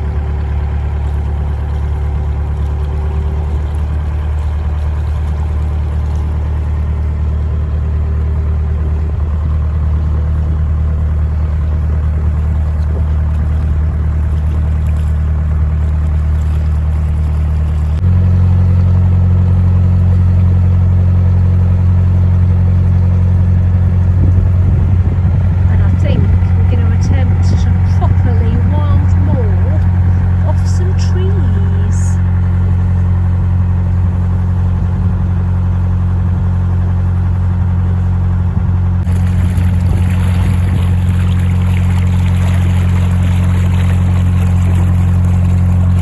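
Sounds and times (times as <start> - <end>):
diesel engine humming: 0.0 - 46.0.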